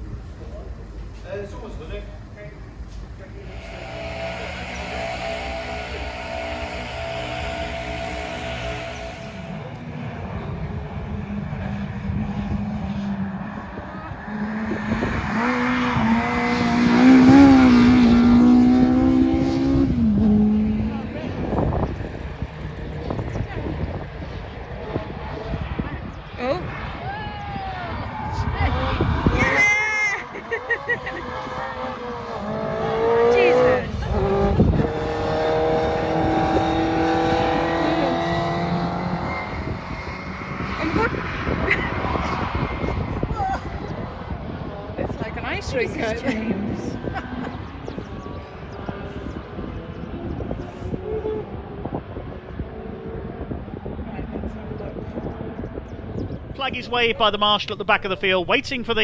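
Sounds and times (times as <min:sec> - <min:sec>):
racing car engine at high revs: 0:01.7 - 0:56.5.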